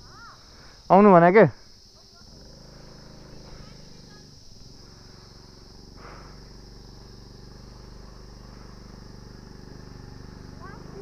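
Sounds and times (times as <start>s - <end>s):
crickets droning: 0.0s - 11.0s
scooter engine idling: 1.8s - 11.0s.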